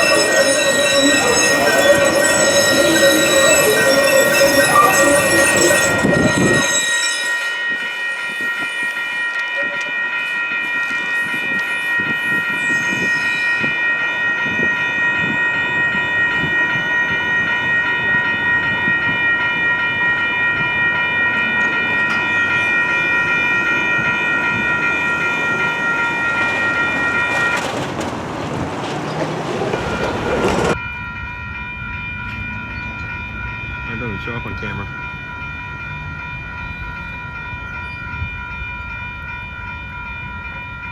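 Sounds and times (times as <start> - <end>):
high ringing tones: 0.0 - 40.8
train wheels rumbling on rail: 0.0 - 40.9.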